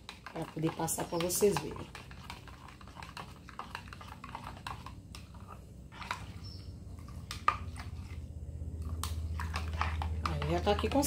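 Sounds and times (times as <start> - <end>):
metal spoon stirring in jug: 0.0 - 11.0.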